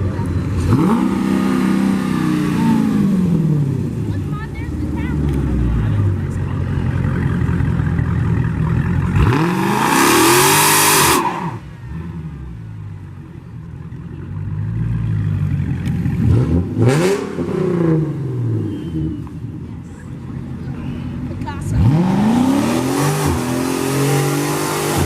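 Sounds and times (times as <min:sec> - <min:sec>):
car engine revving: 0:00.0 - 0:13.0, 0:13.9 - 0:19.4, 0:20.4 - 0:25.0.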